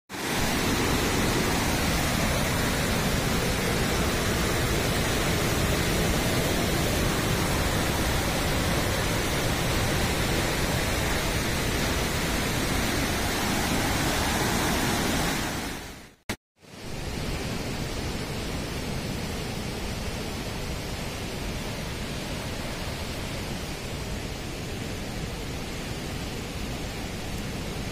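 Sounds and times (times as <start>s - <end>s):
river water rushing: 0.1s - 27.9s.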